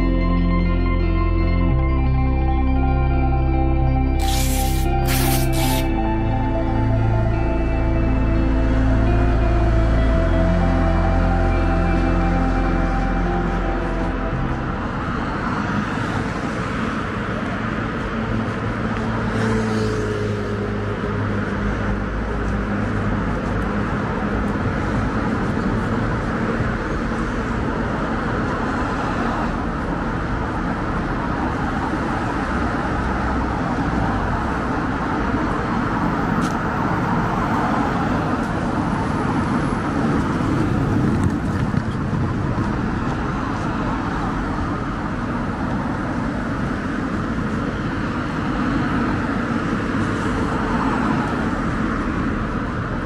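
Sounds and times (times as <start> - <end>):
cars driving past: 5.8 - 53.0.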